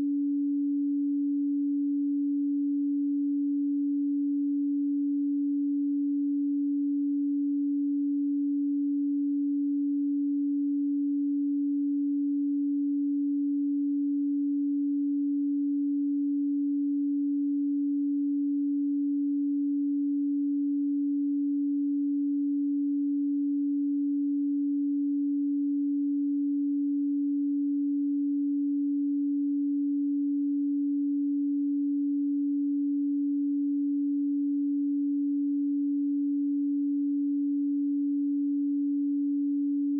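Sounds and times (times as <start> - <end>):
low sine tone hum: 0.0 - 39.9.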